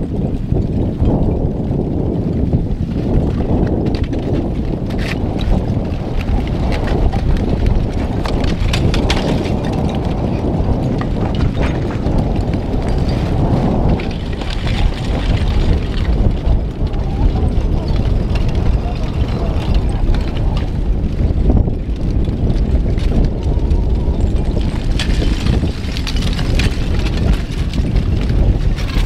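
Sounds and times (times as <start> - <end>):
lava blocks crackling and clinking: 0.0 - 29.0
wind rumble on microphone: 0.0 - 29.0.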